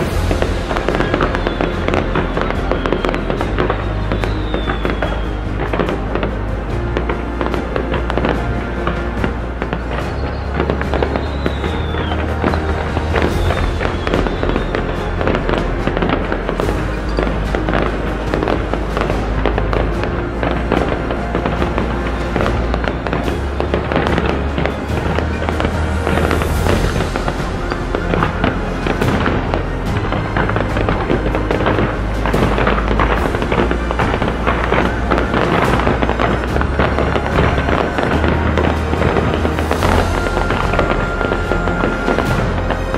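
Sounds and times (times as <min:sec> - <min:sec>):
fireworks bursting and crackling: 0:00.0 - 0:42.9
loud music with deep bass: 0:00.0 - 0:42.9.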